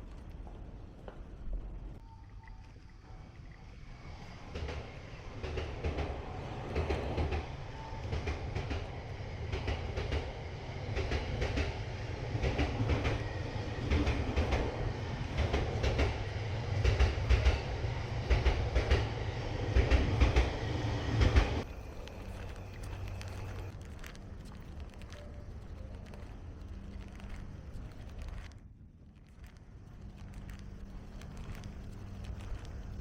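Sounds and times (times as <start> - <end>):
train rumble: 3.0 - 33.0.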